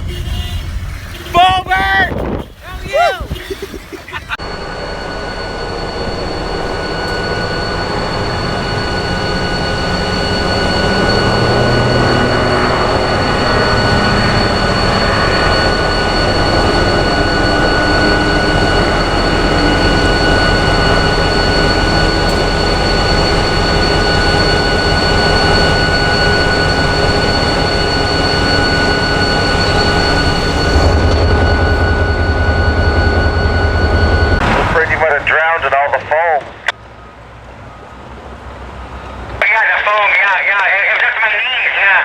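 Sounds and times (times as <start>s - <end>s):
high whine: 0.0s - 36.8s, 39.0s - 42.0s
train rumbling by: 0.0s - 42.0s.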